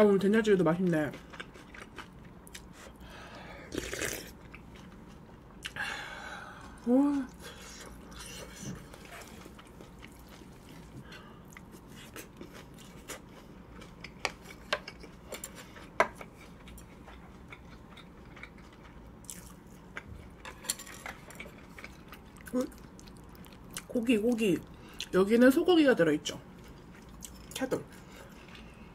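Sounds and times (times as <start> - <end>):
person chewing food: 1.1 - 24.0, 26.6 - 28.9.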